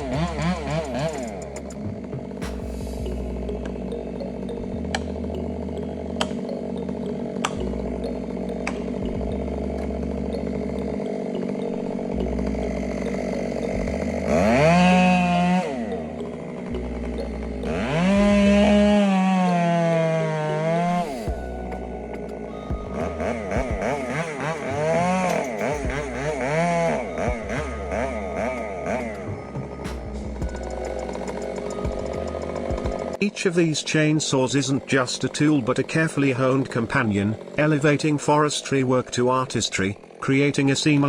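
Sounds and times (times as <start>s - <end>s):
chainsaw engine revving: 0.0s - 41.0s.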